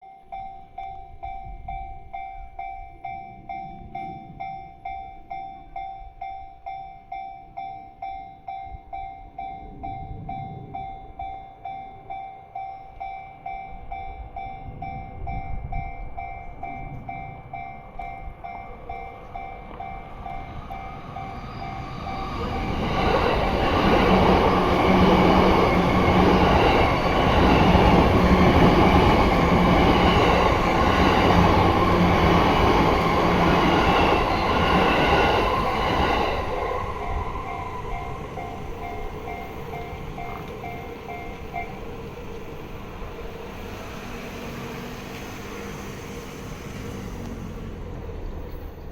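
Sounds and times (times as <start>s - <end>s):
level crossing alarm bell: 0.0s - 42.5s
train passing on rails: 0.0s - 48.9s.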